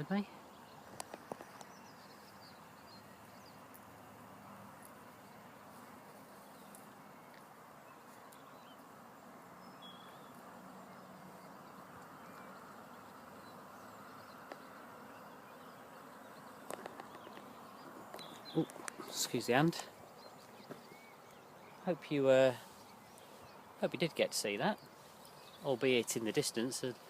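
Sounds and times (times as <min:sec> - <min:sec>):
distant bird chirps: 0:00.0 - 0:27.0.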